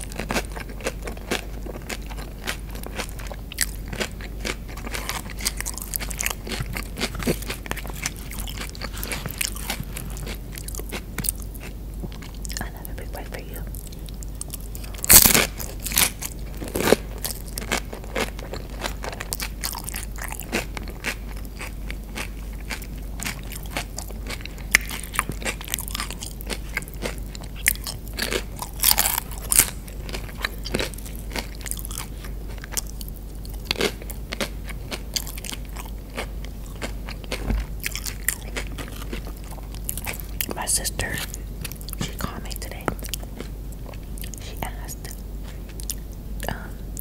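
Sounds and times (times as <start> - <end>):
chewing crunchy chips: 0.0 - 47.0.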